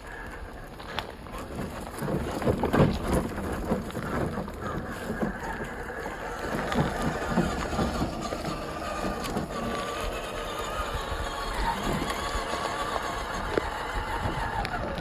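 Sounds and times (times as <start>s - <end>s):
electric motor whine: 0.0s - 15.0s
tyres crunching over dirt and rocks: 0.0s - 15.0s.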